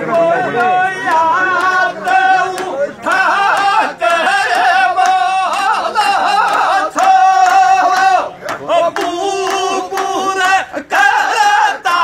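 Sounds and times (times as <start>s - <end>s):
men singing folk song: 0.0s - 12.0s.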